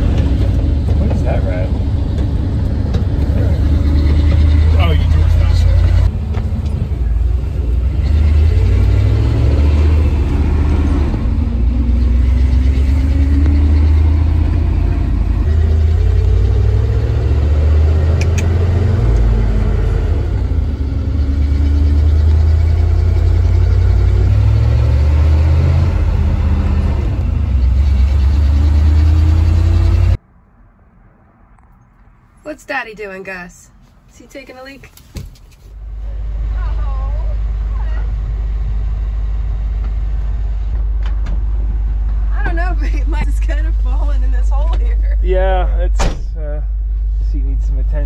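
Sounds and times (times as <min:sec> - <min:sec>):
truck engine rumbling: 0:00.0 - 0:48.0.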